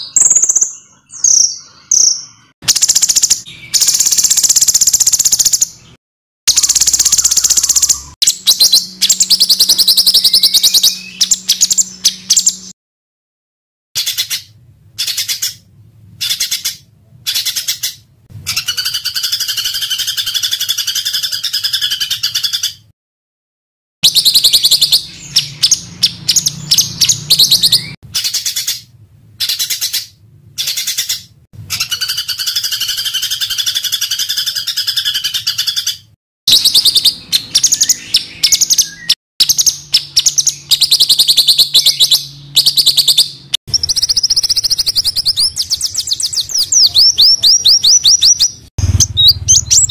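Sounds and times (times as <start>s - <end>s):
songbirds singing rapid high notes: 0.0s - 12.8s, 14.0s - 22.9s, 24.0s - 49.9s.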